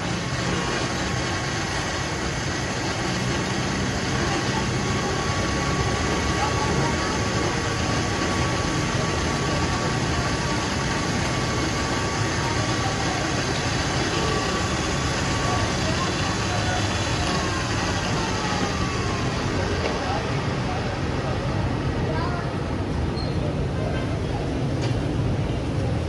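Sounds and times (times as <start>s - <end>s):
faint voices: 0.0s - 26.0s
low engine-like rumble: 0.0s - 26.0s.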